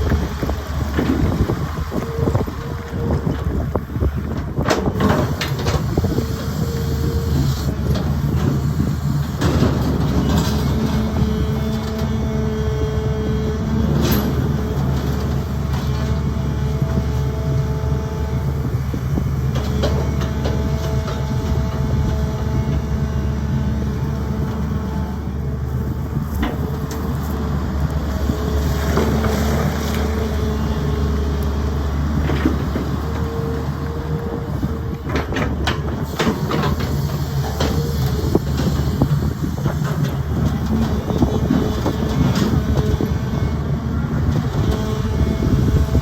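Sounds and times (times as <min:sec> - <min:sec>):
excavator diesel engine running: 0:00.0 - 0:46.0
hydraulic whine: 0:00.0 - 0:46.0.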